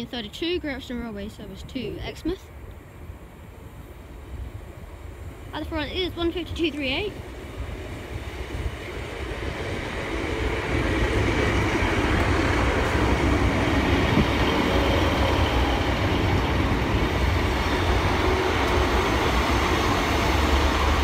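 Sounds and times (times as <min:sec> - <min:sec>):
diesel train engines and wheels: 0:00.0 - 0:21.0.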